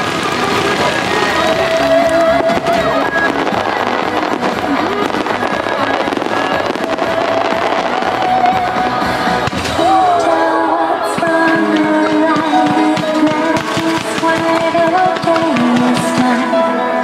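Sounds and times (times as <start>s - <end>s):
fireworks bursting and crackling: 0.0s - 10.3s, 11.0s - 16.6s
music: 0.0s - 17.0s.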